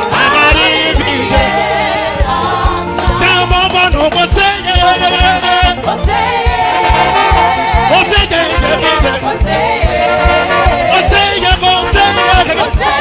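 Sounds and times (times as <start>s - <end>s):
keyboards: 0.0s - 13.0s
lead singer: 0.0s - 13.0s
steady drum beat: 0.0s - 13.0s.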